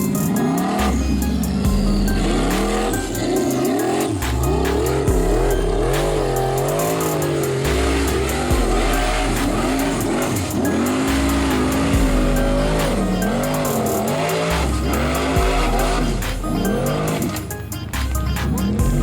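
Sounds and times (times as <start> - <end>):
bass-heavy background music: 0.0 - 19.0
car engines revving hard: 0.0 - 19.0.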